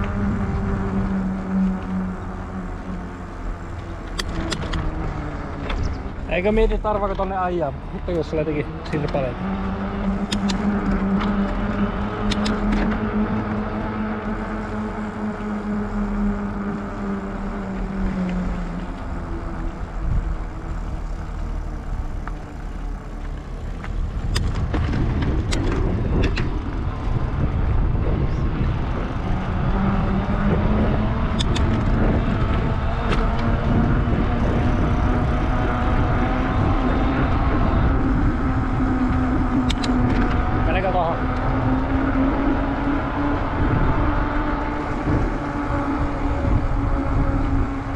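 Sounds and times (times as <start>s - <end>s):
bike tyre humming on asphalt: 0.0s - 47.9s
wind rumble on microphone: 0.0s - 47.9s.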